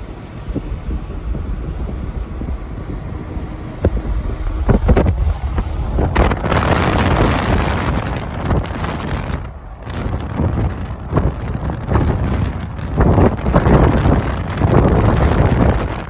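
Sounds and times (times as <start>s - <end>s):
road rumble inside vehicle: 0.0s - 16.0s.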